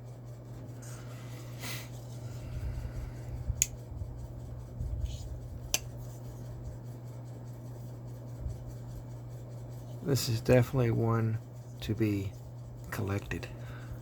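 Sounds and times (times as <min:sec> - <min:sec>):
hands rubbing on knife: 0:01.0 - 0:13.3.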